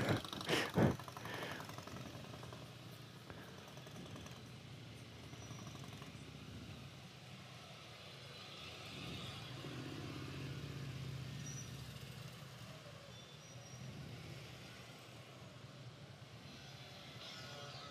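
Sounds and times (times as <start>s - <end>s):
motorcycle engines at low revs: 0.0s - 17.9s.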